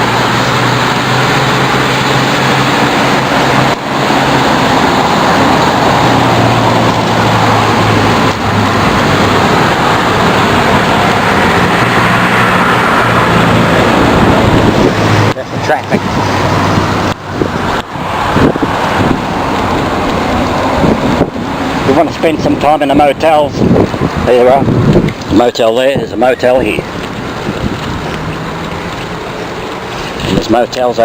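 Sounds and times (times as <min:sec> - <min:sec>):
wind on microphone: 0:00.0 - 0:30.5
road traffic passing: 0:00.0 - 0:31.0.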